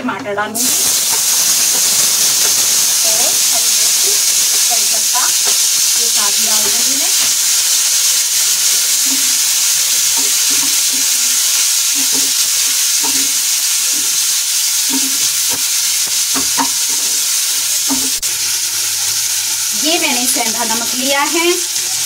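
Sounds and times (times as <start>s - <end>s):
spatula scraping and knocking pan: 0.6s - 18.3s
vegetables sizzling in hot fat: 0.6s - 22.0s.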